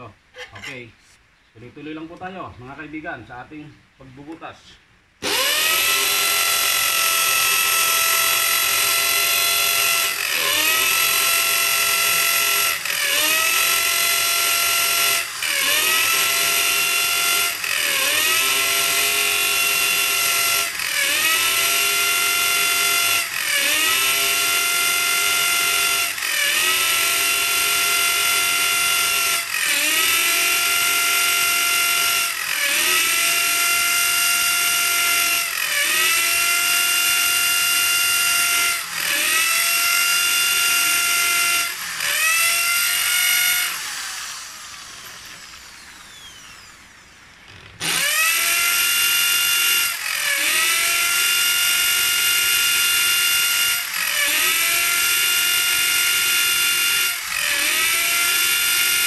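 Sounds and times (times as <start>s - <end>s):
electric drill boring into wood: 5.2s - 59.0s.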